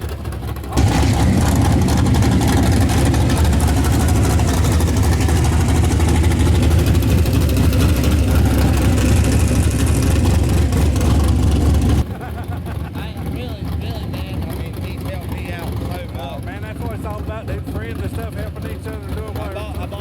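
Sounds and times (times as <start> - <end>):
truck engine idling: 0.1 - 20.0.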